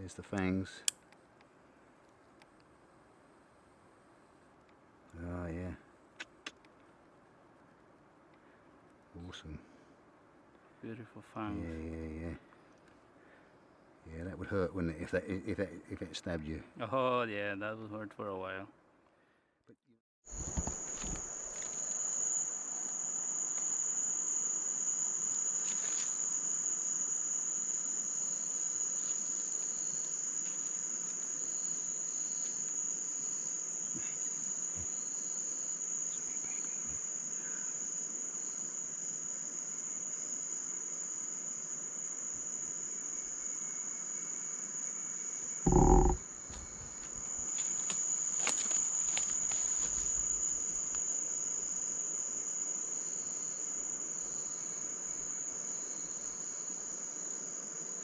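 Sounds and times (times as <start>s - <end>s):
crickets trilling: 0.0s - 18.7s, 20.3s - 58.0s.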